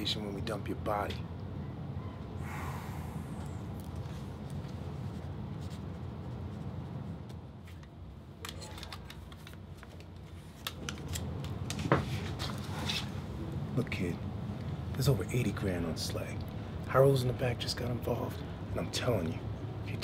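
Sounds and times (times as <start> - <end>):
steady low hum: 0.0 - 8.5, 9.2 - 20.0.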